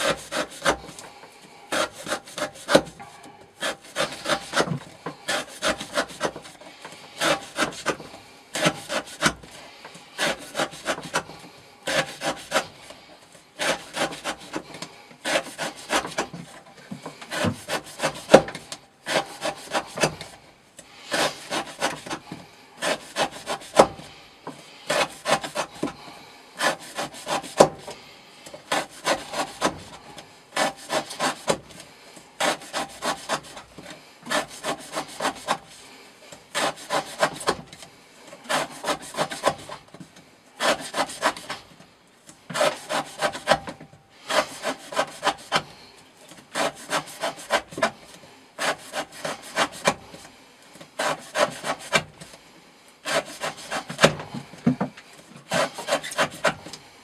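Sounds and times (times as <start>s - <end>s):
knife sawing through rope: 0.0s - 41.7s, 42.5s - 50.3s, 50.9s - 52.4s, 53.0s - 54.6s, 55.3s - 56.8s.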